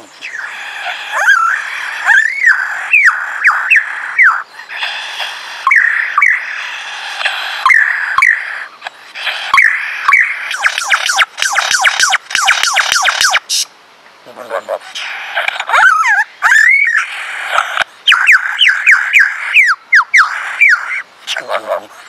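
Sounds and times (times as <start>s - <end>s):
lyrebird singing looping notes: 0.0s - 13.7s, 14.4s - 22.0s.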